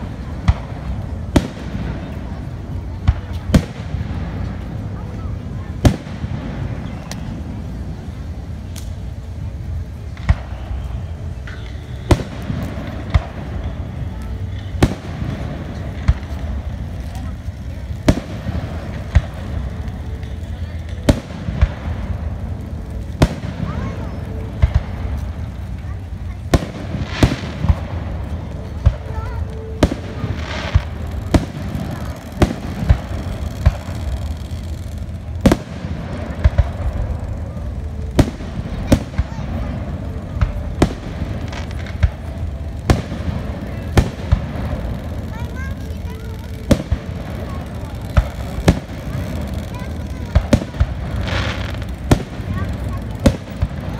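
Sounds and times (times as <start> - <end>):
firework bangs: 0.0 - 9.2, 9.9 - 53.9
steady low rumble: 0.0 - 53.9.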